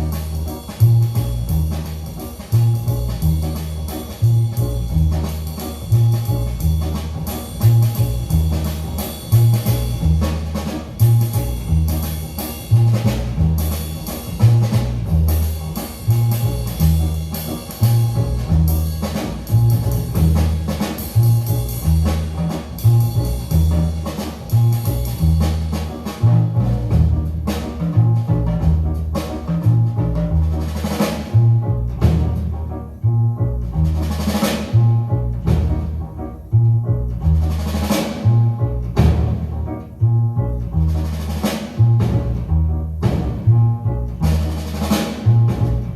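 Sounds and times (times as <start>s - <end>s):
deep bass line: 0.0s - 45.9s
jazz music over loudspeakers: 0.0s - 45.9s.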